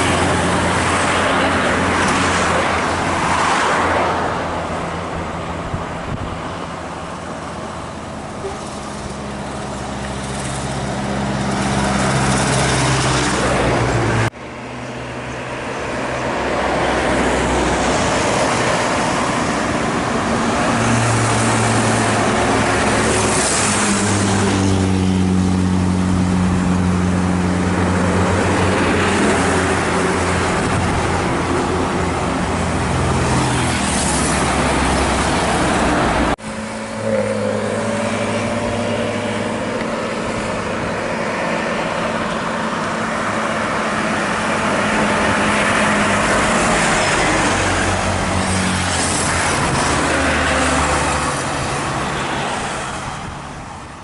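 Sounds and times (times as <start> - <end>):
heavy vehicles passing: 0.0 - 54.0
loud engine low drone: 4.2 - 53.9.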